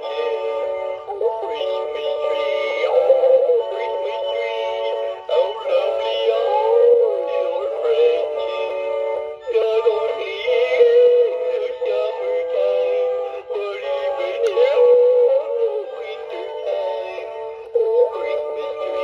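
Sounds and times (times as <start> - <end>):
toy singing carol over tinny speaker: 0.0 - 19.0.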